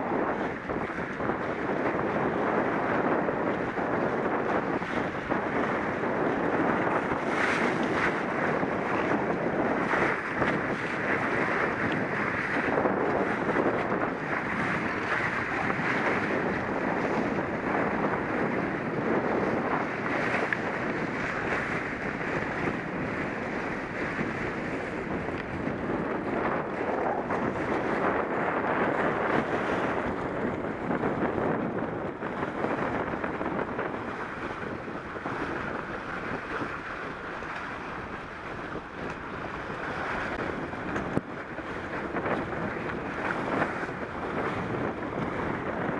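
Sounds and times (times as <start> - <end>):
water rushing past hull: 0.0 - 45.9
wind buffeting microphone: 0.0 - 45.9.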